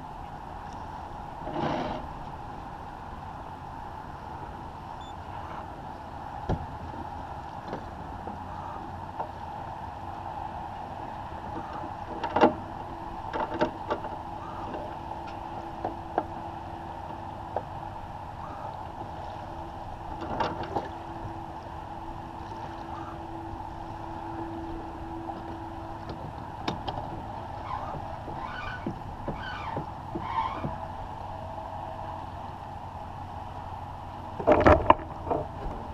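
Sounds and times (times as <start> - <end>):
boat knocks and creaks: 0.0 - 4.2, 5.0 - 35.9
faint steady hum: 0.0 - 35.9
water washing along hull: 0.0 - 35.9.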